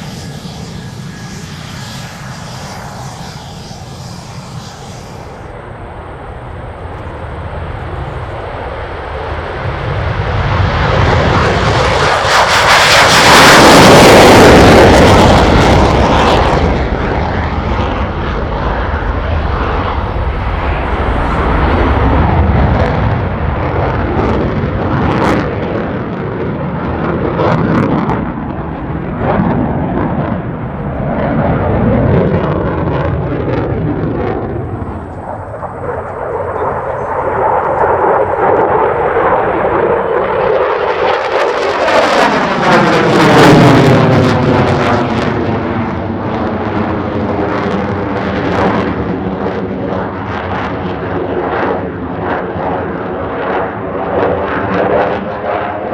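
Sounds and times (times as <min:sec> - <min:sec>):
fighter jet engine roaring: 0:00.0 - 0:55.9.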